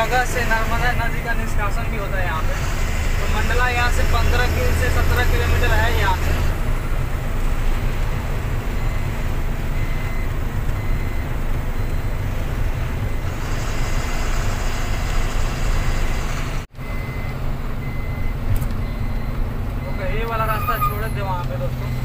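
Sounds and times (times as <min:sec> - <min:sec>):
truck engine and road rumble: 0:00.0 - 0:22.0.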